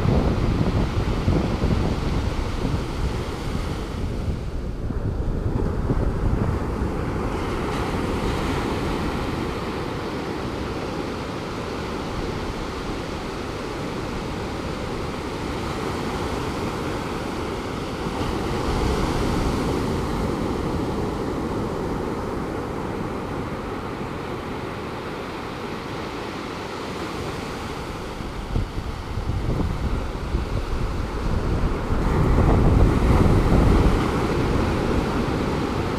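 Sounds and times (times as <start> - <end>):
ocean surf washing onto beach: 0.0 - 35.9
wind on microphone: 0.0 - 35.9.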